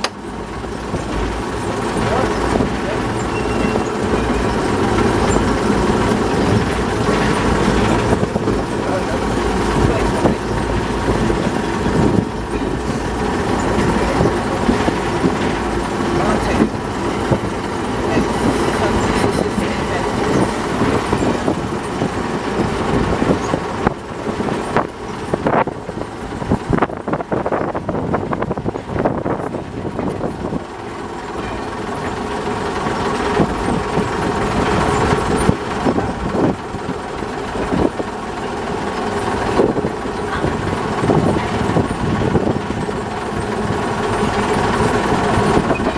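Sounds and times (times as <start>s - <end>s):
diesel locomotive engine running: 0.0s - 45.9s
wheels knocking on rails: 0.0s - 45.9s.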